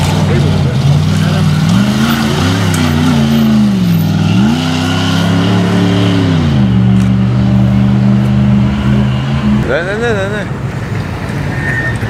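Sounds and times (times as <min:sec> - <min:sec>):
engine revving under throttle: 0:00.0 - 0:09.7.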